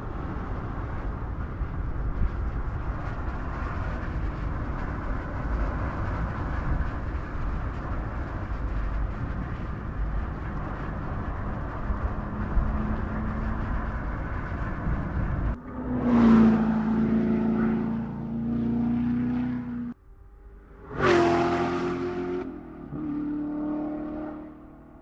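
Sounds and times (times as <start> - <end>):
car engine drone: 0.0 - 25.0
tyre road noise: 0.0 - 25.0.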